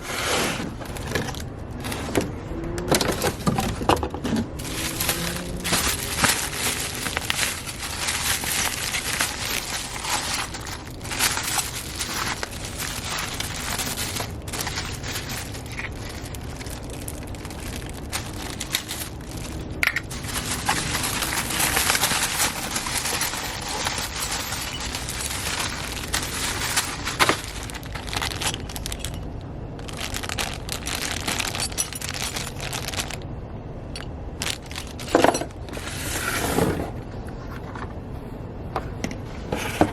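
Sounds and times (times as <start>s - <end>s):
plastic and cardboard rustling: 0.0s - 33.3s, 33.9s - 38.2s, 38.8s - 39.9s.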